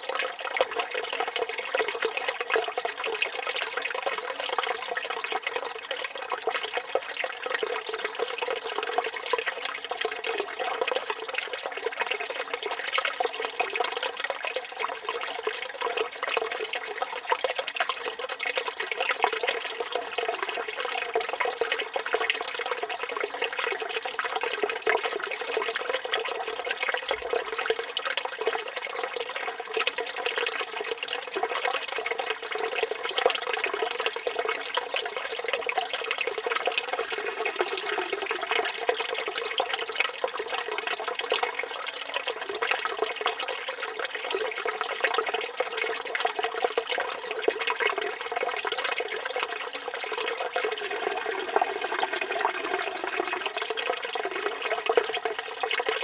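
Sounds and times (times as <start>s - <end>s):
fountain water pouring and splashing: 0.0s - 56.0s.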